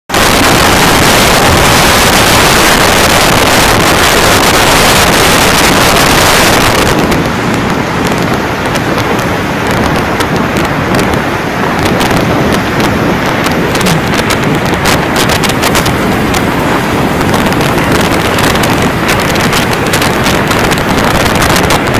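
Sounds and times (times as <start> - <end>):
driving rain: 0.1 - 21.9
strong storm wind: 0.1 - 21.9
wind buffeting microphone: 0.1 - 21.9
sharp crackles: 0.2 - 21.9.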